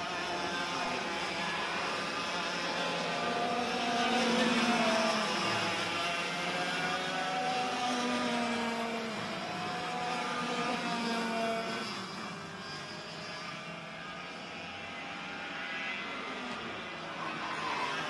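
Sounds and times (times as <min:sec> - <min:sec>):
racing kart engines at high revs: 0:00.0 - 0:18.0.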